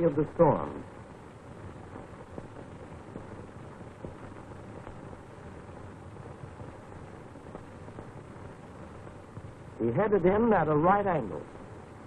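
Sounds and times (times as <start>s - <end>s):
faint steady hum: 0.0s - 12.0s
film soundtrack hiss and crackle: 0.0s - 12.0s.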